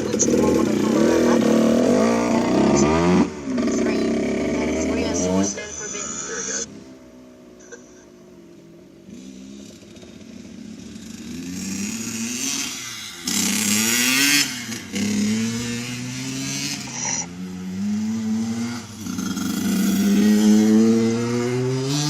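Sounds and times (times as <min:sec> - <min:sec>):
dirt bike accelerating: 0:00.0 - 0:22.0.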